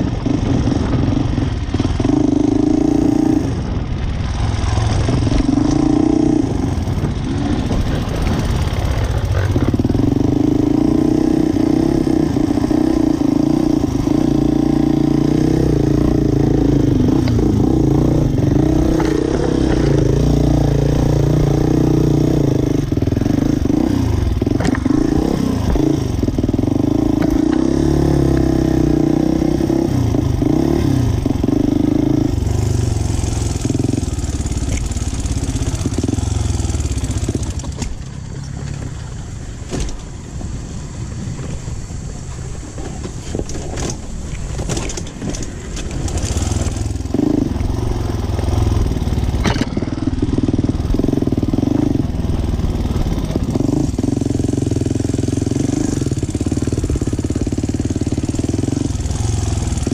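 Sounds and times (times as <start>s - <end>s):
dirt bike engine revving: 0.0s - 37.7s, 45.5s - 59.9s.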